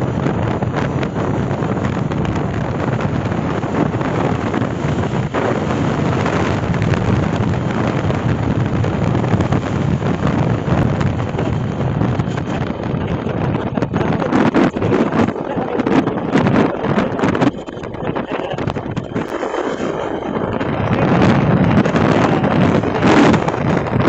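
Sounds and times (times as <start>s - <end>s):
motorcycle running with road noise: 0.0s - 24.0s
wind buffeting microphone: 0.0s - 24.0s.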